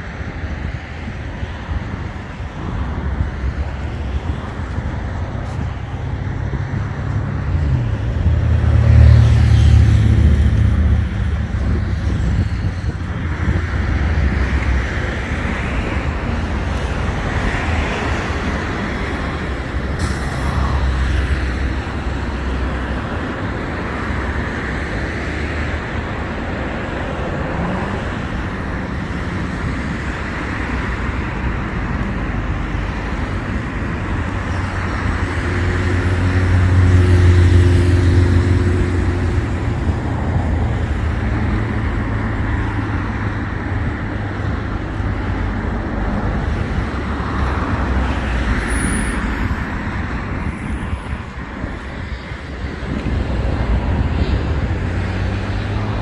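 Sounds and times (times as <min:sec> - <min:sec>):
road traffic rumble: 0:00.0 - 0:56.0
vehicle passing loudly: 0:03.5 - 0:56.0.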